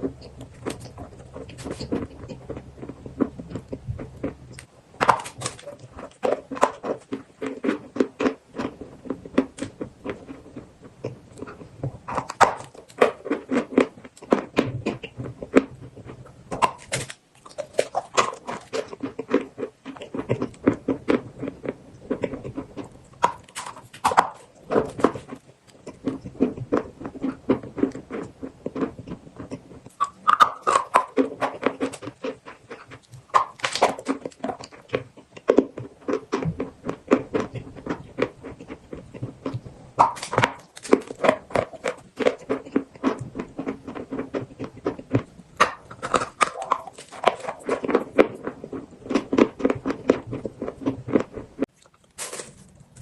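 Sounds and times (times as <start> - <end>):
chalk being chewed: 0.0 - 52.2.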